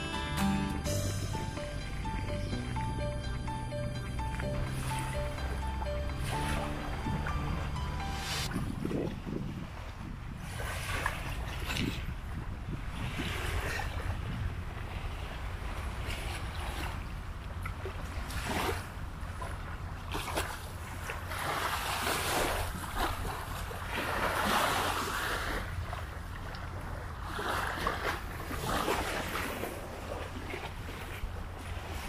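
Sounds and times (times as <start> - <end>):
wind rumble on microphone: 0.6 - 32.0
waves lapping on sand: 4.4 - 32.0.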